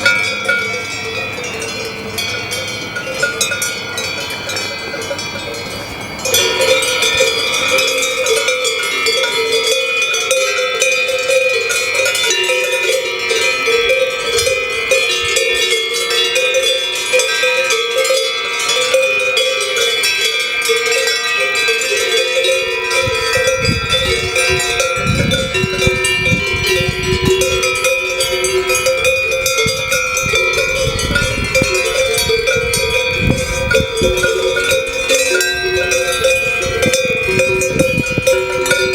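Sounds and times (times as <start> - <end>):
cowbells clanking: 0.0 - 38.9.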